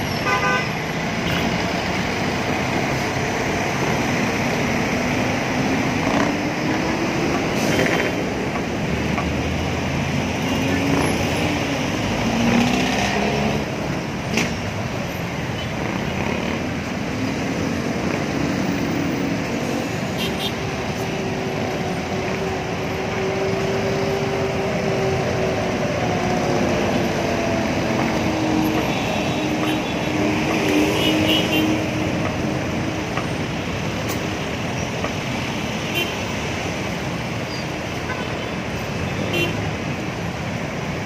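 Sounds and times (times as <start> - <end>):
road traffic engines: 0.0 - 41.0.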